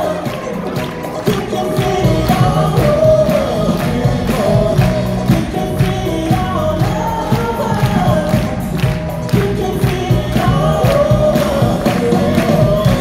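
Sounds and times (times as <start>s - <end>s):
fast percussion beat: 0.0s - 13.0s
group of voices singing: 0.0s - 13.0s.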